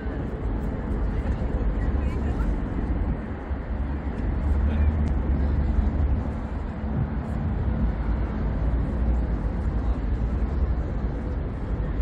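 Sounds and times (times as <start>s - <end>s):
harbourside ambience: 0.0s - 12.0s
wind buffeting microphone: 0.0s - 12.0s.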